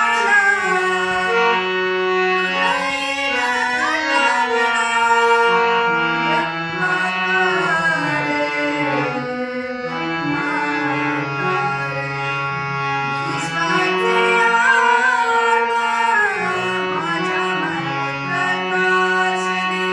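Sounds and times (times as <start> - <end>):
instrumental accompaniment: 0.0 - 19.9
person singing ornamented notes: 0.0 - 19.9.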